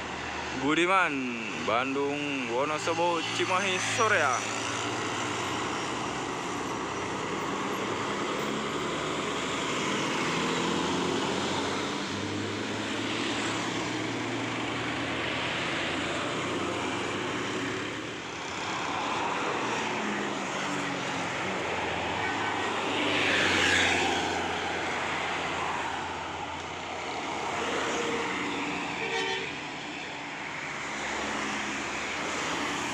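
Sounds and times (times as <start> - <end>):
bus diesel engine under load: 0.0 - 32.9
tyre and road noise: 0.0 - 32.9.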